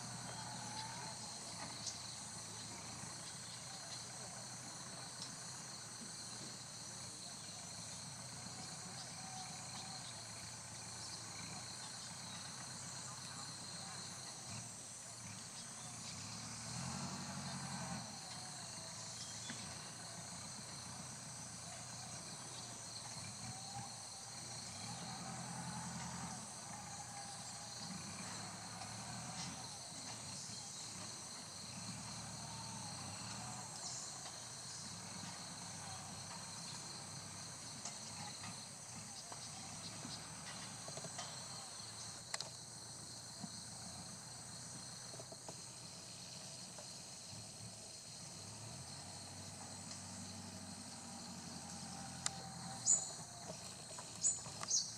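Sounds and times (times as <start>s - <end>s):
insect chorus: 0.0s - 54.9s.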